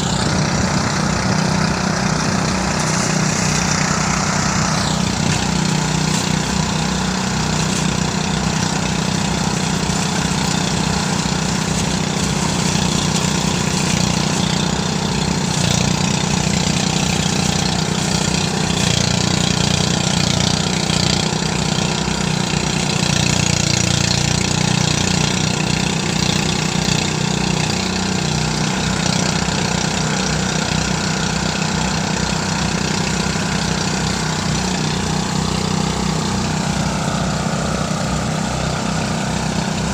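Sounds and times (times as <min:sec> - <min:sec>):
threshing machine engine drone: 0:00.0 - 0:39.9.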